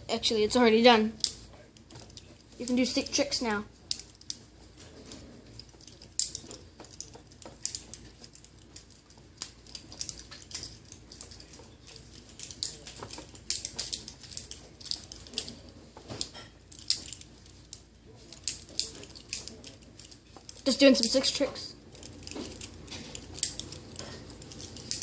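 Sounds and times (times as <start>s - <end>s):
plastic pieces clicking and clattering: 1.2s - 4.5s, 5.1s - 25.0s.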